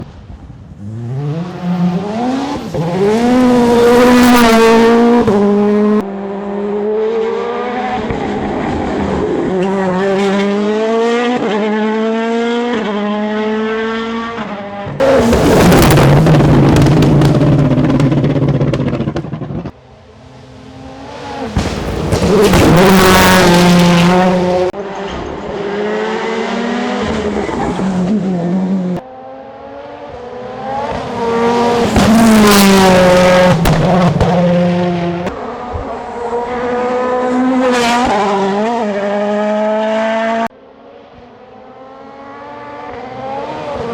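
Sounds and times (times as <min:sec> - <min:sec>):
rally car engine revving hard: 0:00.8 - 0:19.8, 0:20.8 - 0:40.5, 0:41.8 - 0:43.9.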